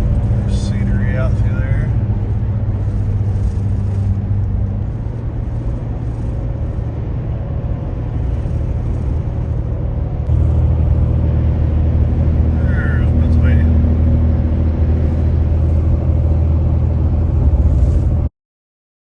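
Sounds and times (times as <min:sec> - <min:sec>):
road noise: 0:00.0 - 0:18.3
vehicle engine drone: 0:00.0 - 0:18.3.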